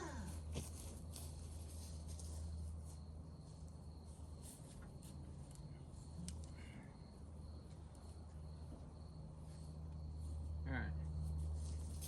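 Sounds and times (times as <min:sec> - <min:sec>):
insects trilling: 0:00.0 - 0:12.0
low steady hum: 0:00.0 - 0:12.0.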